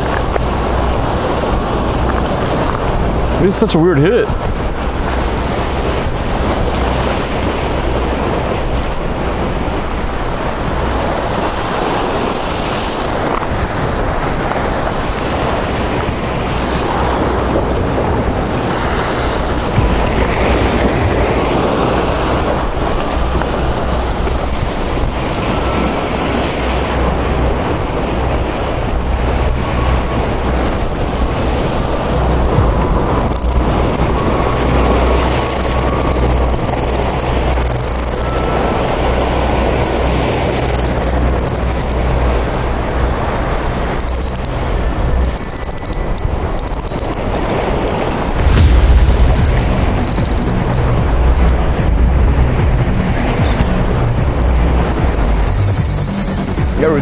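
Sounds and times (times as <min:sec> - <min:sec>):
waves surging against rocks: 0:00.0 - 0:57.0
wind buffeting microphone: 0:00.0 - 0:57.0.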